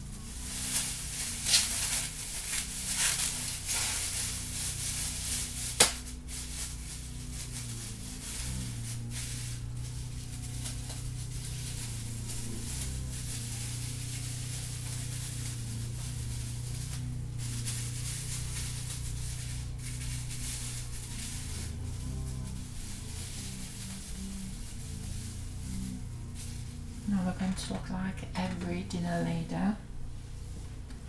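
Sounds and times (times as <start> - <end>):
plastic shower cap crinkling: 0.0 - 28.7
constant hiss: 0.0 - 31.0
steady low hum: 0.0 - 31.0.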